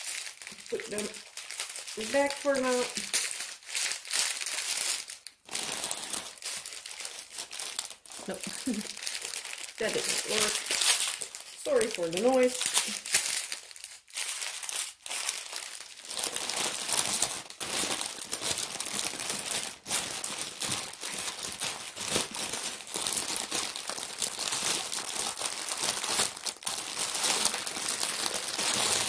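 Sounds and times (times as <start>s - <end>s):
plastic bags crinkling: 0.0s - 29.0s.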